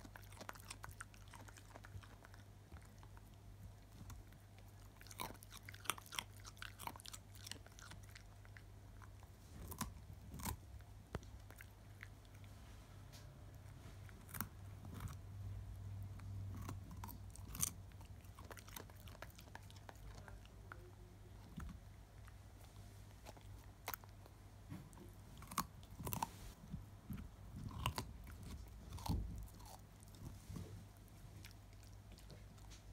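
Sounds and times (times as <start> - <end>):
dog crunching carrot: 0.0 - 12.6, 13.5 - 32.9.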